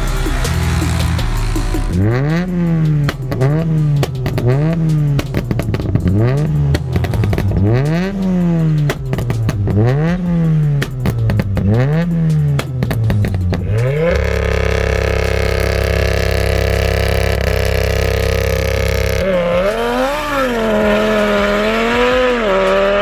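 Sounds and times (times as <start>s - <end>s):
sharp clicks and clatter: 0.0s - 21.0s
rally car engine revving: 0.0s - 23.0s.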